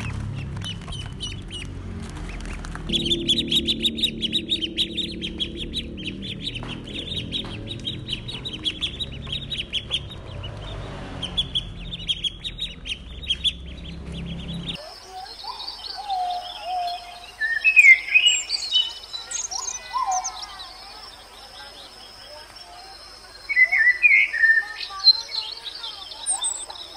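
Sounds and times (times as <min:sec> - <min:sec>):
birds singing whistled notes: 0:00.0 - 0:26.9
ducklings peeping: 0:00.0 - 0:26.9.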